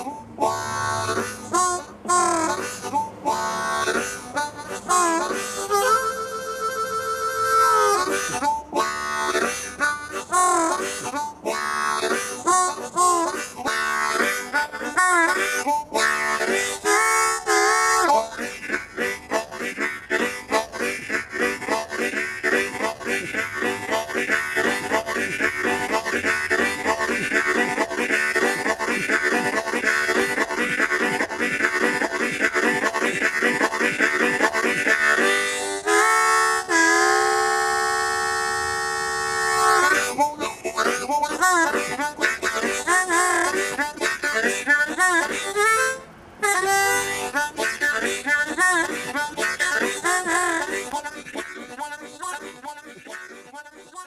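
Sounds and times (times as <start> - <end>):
blues harmonica: 0.0 - 54.0.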